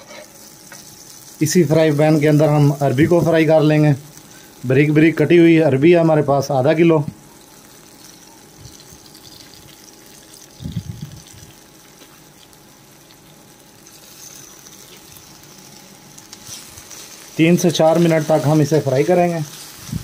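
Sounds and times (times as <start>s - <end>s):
taro sticks sizzling in hot oil: 0.0s - 20.0s.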